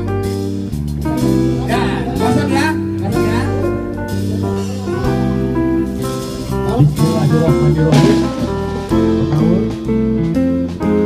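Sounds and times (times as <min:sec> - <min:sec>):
drums: 0:00.0 - 0:11.0
plucked guitar melody: 0:01.0 - 0:11.0.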